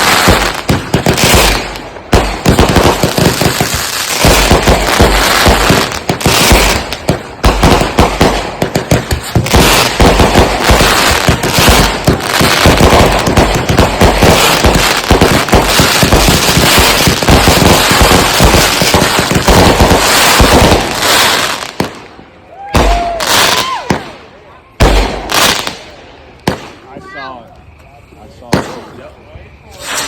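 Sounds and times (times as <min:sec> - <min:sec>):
fireworks barrage: 0:00.0 - 0:30.0.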